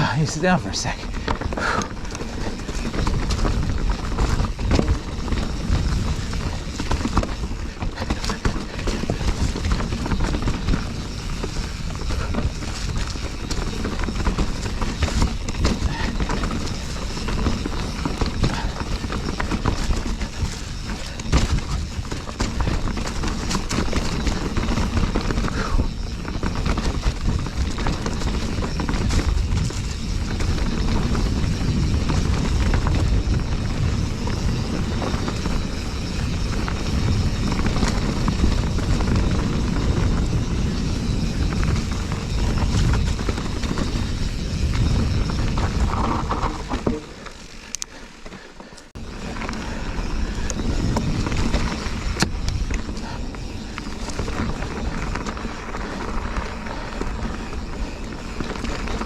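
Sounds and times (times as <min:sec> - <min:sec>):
bike tyres and frame rattling: 0:00.0 - 0:59.0
low wind rumble on microphone: 0:00.0 - 0:59.0.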